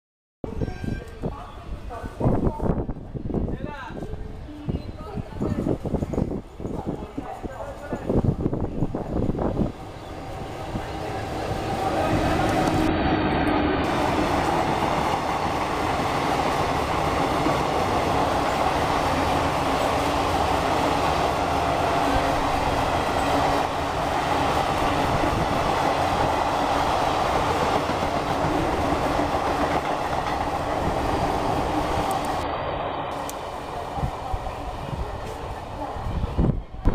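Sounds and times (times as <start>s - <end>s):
passenger train rolling past: 1.0s - 36.9s.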